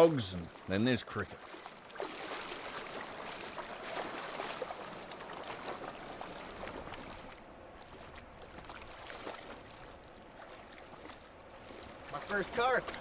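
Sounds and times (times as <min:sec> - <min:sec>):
river water splashing: 0:00.0 - 0:13.0.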